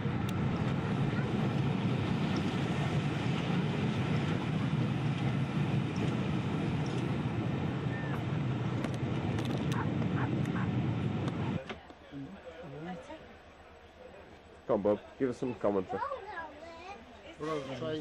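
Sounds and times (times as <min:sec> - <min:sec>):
train coaches running on track: 0:00.0 - 0:15.9.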